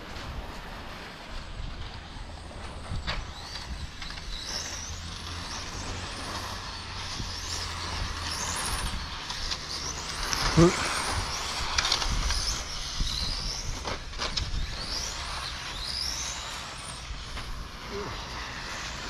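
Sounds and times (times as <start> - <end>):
rc car motors whining: 0.0 - 19.0
steady rushing noise: 0.0 - 19.0.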